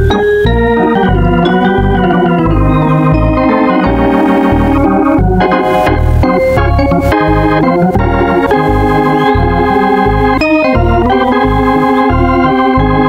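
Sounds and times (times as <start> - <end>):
organ chords with bass line: 0.0 - 13.0.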